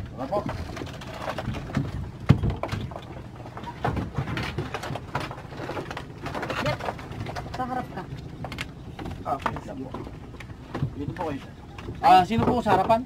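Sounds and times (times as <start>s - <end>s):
kayaks knocking and scraping: 0.0s - 13.0s.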